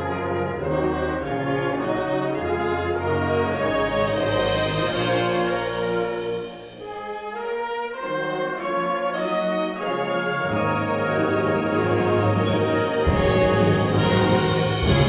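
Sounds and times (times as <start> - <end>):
concert band brass chords: 0.0 - 15.0.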